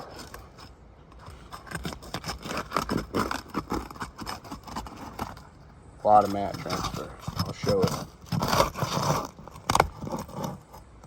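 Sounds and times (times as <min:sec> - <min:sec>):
roof shingles scraping and crackling: 0:00.0 - 0:10.9.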